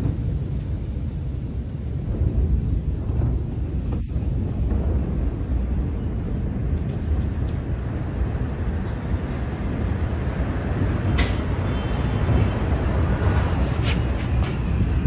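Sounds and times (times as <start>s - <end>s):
deep explosion rumble: 0.0s - 13.8s.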